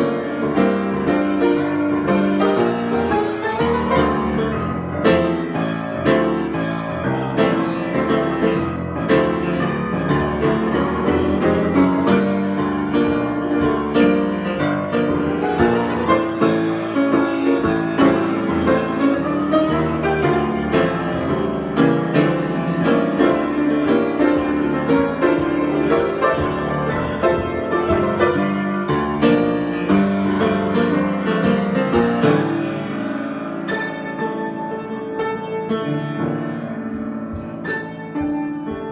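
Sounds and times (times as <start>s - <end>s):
solo piano improvisation: 0.0s - 38.9s.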